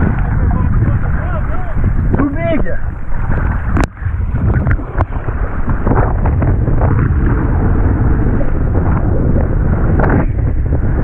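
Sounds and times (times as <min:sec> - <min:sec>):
water rushing and spraying: 0:00.0 - 0:11.0
wind buffeting microphone: 0:00.0 - 0:11.0.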